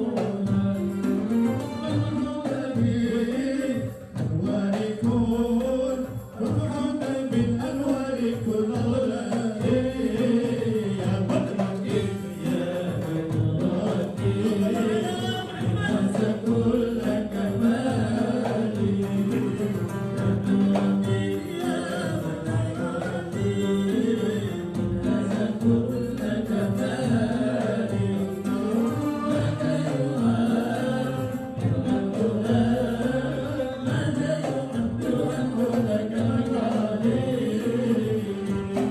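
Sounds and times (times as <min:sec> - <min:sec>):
musical backing: 0:00.0 - 0:38.9.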